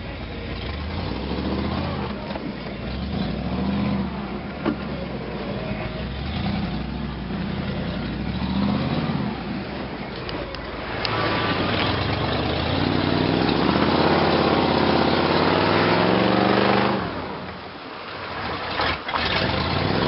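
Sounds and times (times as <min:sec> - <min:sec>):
truck engine revving: 0:00.0 - 0:17.6, 0:18.4 - 0:20.0.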